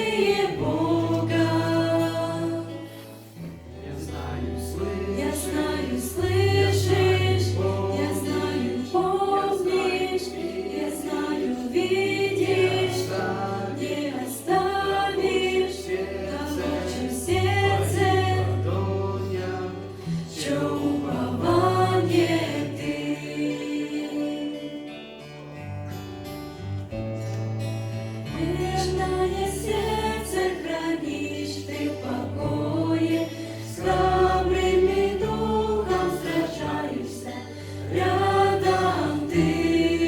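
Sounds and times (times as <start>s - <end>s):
choir singing slow worship song: 0.0s - 27.0s, 27.6s - 40.0s.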